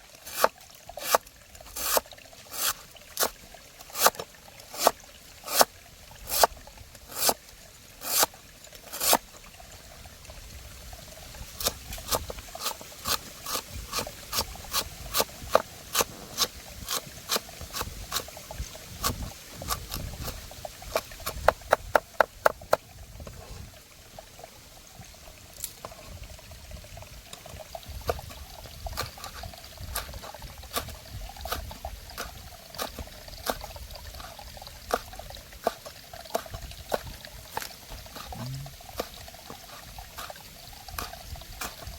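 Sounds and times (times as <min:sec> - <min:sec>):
trickling water: 0:00.0 - 0:41.9.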